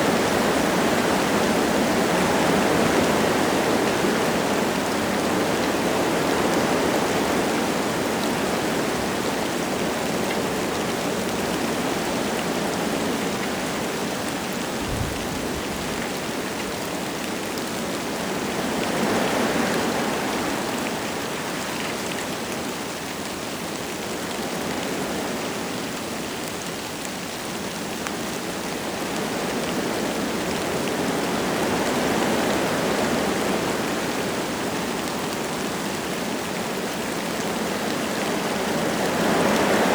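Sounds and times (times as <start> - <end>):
light rain falling: 0.0 - 39.9
wind gusting through trees: 0.0 - 39.9.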